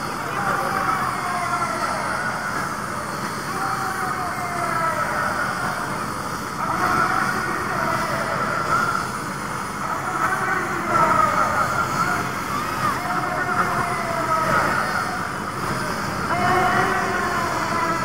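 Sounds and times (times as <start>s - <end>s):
helicopter engine and rotor: 0.0s - 18.0s
large crowd shouting: 0.0s - 18.0s.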